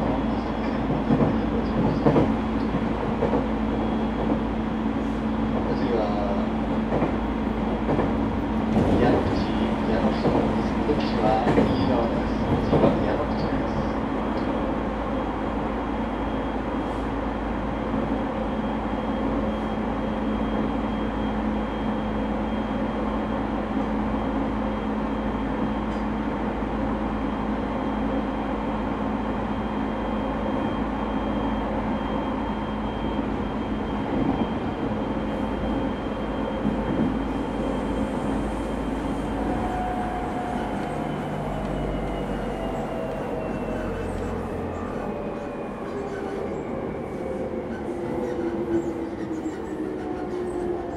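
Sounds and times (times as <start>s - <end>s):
train motor and gear hum: 0.0s - 50.9s
train wheels rumbling on rail: 0.0s - 50.9s.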